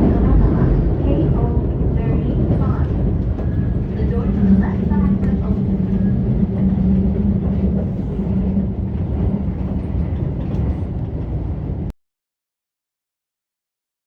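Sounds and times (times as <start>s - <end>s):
electric train rumbling: 0.0s - 11.9s.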